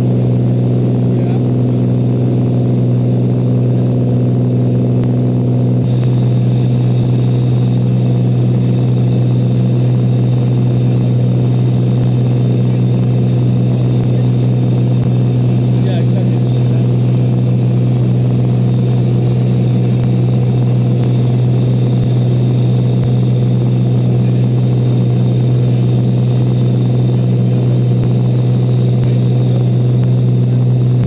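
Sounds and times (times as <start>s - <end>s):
aircraft engine and propeller droning: 0.0s - 31.0s.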